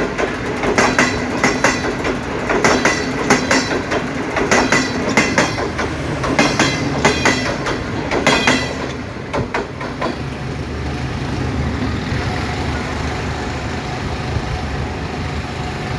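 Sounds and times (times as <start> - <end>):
train wheels clattering over rail joints: 0.0 - 12.8
train low rumble: 0.0 - 15.9.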